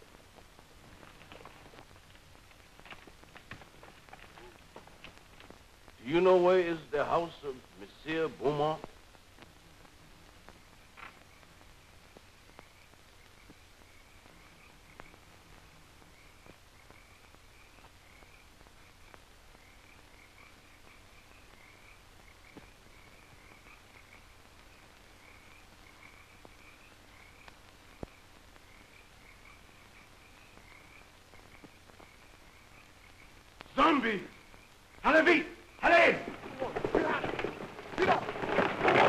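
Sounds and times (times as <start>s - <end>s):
crackle clicks: 0.0s - 6.0s, 7.0s - 35.0s, 35.6s - 39.0s
soundtrack hiss: 0.0s - 37.4s
night insects chirping: 0.0s - 39.0s.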